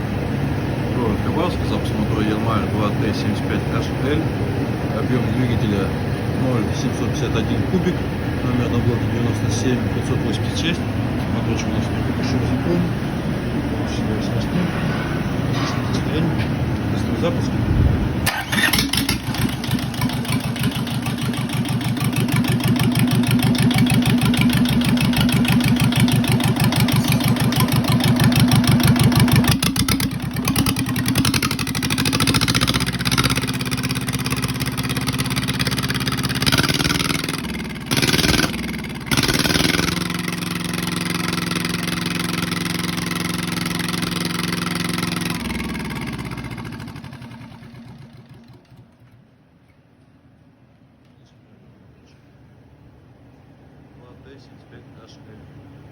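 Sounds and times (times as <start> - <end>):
two-cylinder engine running: 0.0 - 49.6, 52.6 - 55.9.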